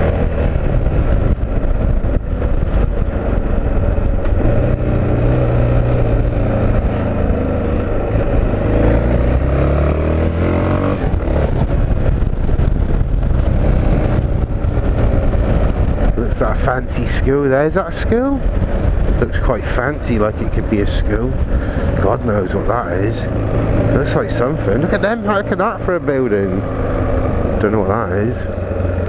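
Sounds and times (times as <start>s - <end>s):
low drone of road noise: 0.0s - 29.0s
vehicle engine accelerating: 0.0s - 29.0s.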